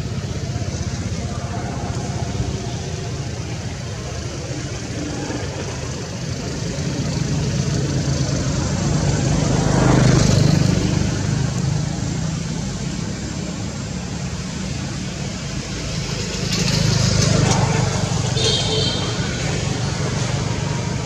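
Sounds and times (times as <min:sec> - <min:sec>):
passing vehicle motor rumble: 0:00.0 - 0:21.0.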